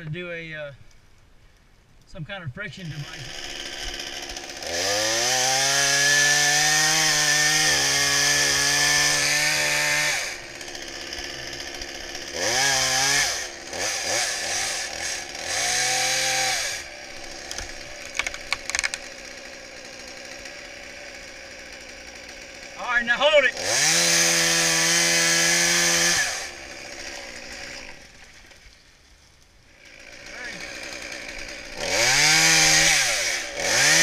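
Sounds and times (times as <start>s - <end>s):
chainsaw revving: 2.8s - 28.8s, 29.7s - 34.0s.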